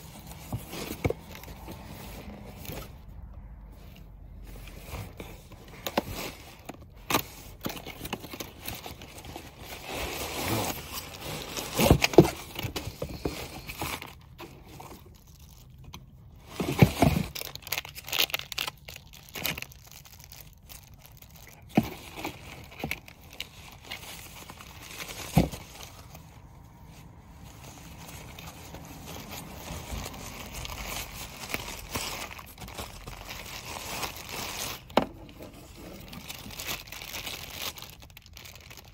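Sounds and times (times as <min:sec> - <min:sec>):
rustling and crinkling: 0:00.0 - 0:38.9.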